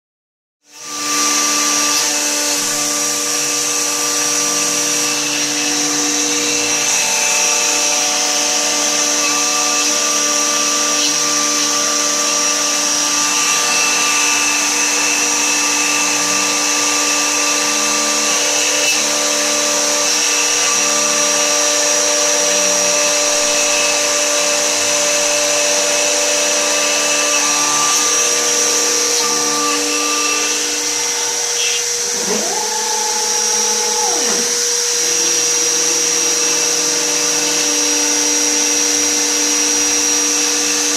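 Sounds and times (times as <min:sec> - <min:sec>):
router spindle whine: 0:00.6 - 0:40.9.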